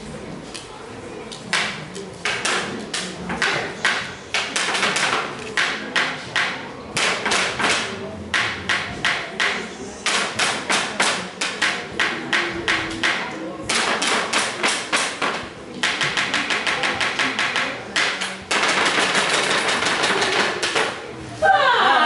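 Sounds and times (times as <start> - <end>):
sharp knocks: 3.3 - 21.0.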